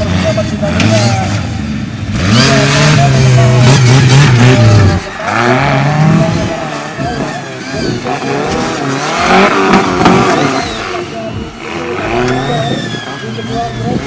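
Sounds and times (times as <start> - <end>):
buggy engine revving hard: 0.0 - 14.0.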